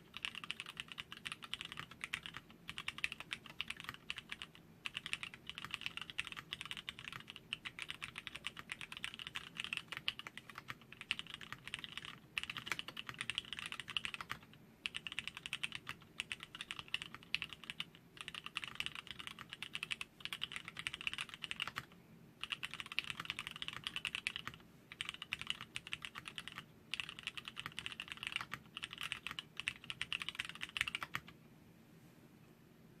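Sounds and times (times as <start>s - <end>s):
fast typing on mechanical keyboard: 0.0s - 31.3s.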